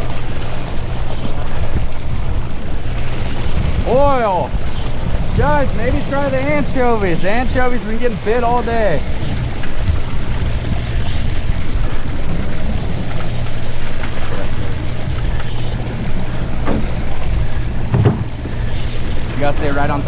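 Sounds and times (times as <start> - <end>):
boat engine humming: 0.0 - 20.0
sea noise: 0.0 - 20.0
wind on microphone: 0.0 - 20.0.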